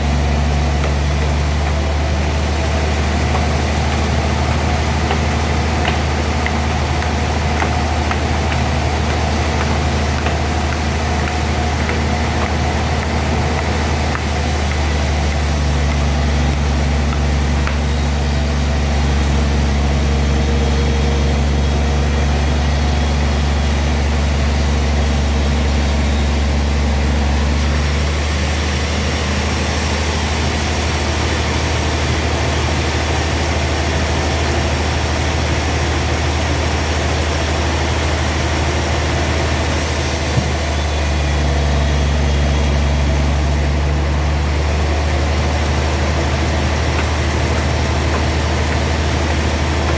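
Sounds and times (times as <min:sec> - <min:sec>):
sawmill machinery humming: 0:00.0 - 0:49.9.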